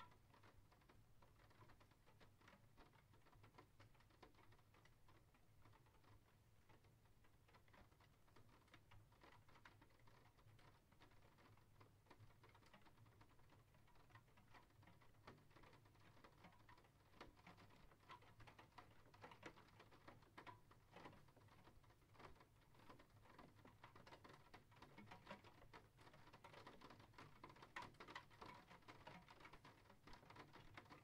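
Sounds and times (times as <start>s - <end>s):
faint rain pattering: 0.0s - 31.0s.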